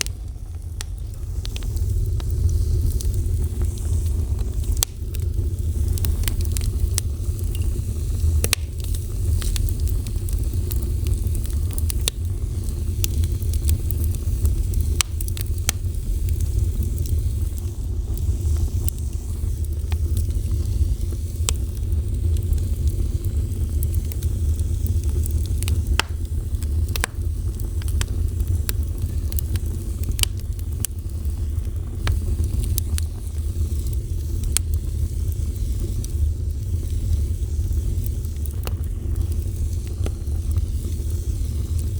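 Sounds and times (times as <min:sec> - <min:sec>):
fire crackles and pops: 0:00.0 - 0:41.9
fire flame rumble: 0:00.0 - 0:41.9.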